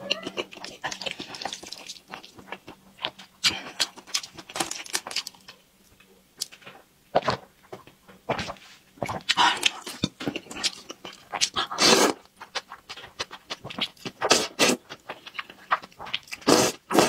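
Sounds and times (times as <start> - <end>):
wet chewing and slurping: 0.1 - 5.4, 8.3 - 17.0.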